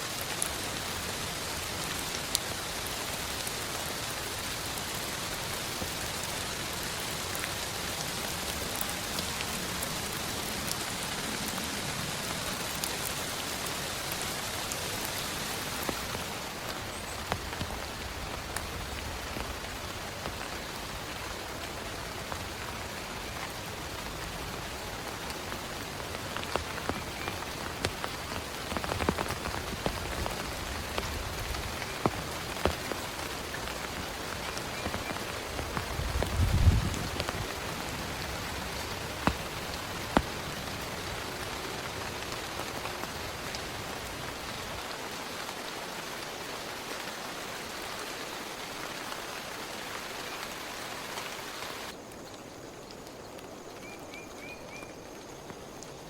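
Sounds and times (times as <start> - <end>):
heavy rain: 0.0 - 56.0
rain drops tapping: 0.0 - 56.0.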